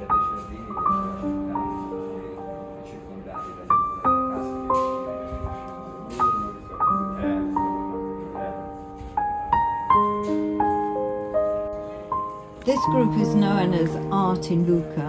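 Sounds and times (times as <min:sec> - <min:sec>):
slow gentle background melody: 0:00.0 - 0:15.0.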